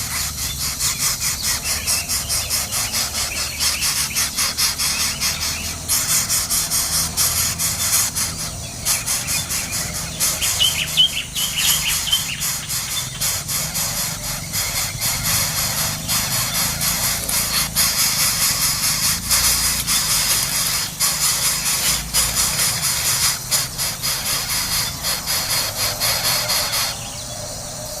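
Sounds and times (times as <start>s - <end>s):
bird chirps: 0.0s - 28.0s
nestling birds begging squeals: 0.0s - 28.0s.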